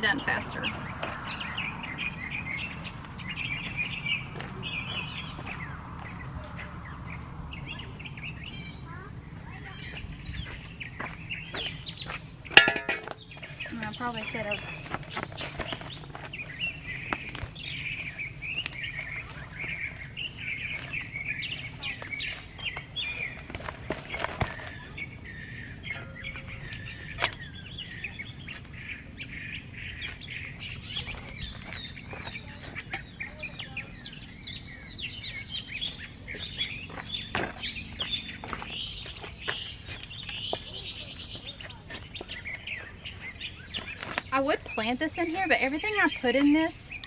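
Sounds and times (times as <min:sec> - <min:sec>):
birds chirping and singing: 0:00.0 - 0:47.0.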